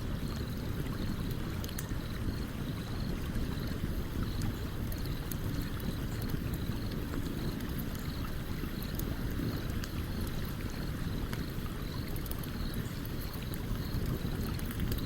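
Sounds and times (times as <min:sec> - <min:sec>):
campfire crackling and popping: 0:00.0 - 0:15.0
flowing stream water: 0:00.0 - 0:15.0.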